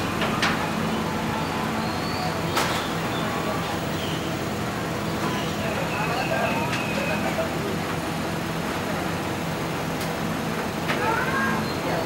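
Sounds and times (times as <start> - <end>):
mechanical hum with low drone: 0.0 - 12.0.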